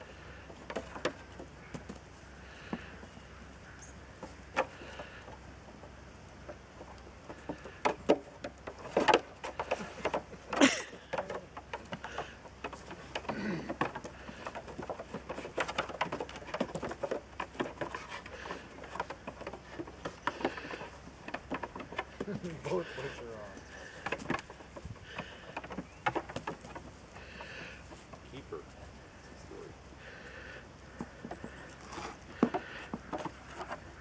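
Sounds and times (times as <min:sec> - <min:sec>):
goat hooves clattering on wood: 0:00.0 - 0:34.0.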